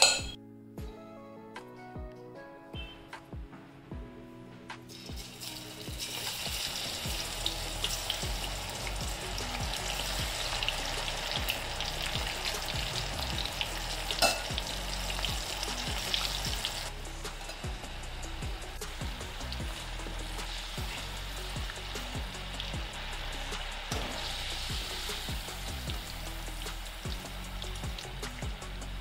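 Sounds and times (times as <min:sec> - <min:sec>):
chickpeas sizzling in hot oil: 0:04.9 - 0:29.0.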